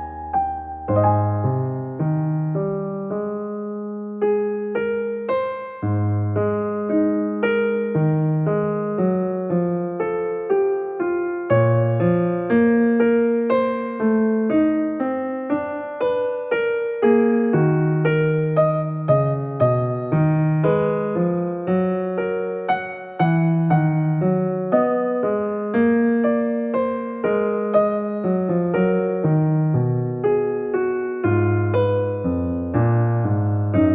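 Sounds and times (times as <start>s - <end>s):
gentle piano music: 0.0s - 33.9s.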